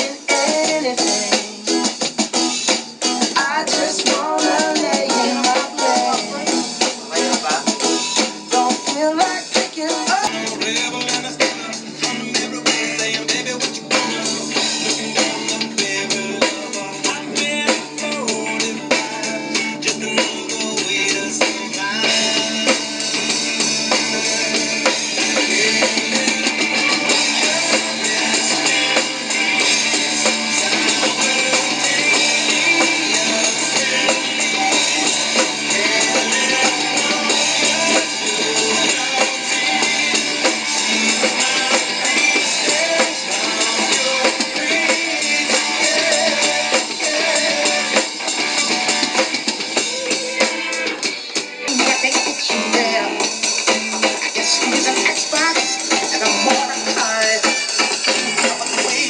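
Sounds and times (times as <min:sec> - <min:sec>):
backing song: 0:00.0 - 0:59.0
electronic drum kit playing: 0:00.0 - 0:59.0.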